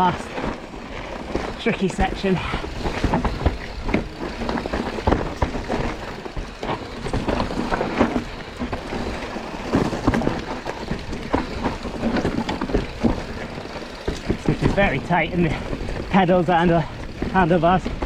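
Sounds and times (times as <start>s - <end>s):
bike rattling and knocking: 0.0s - 18.0s
bike tyres on dirt and rock: 0.0s - 18.0s.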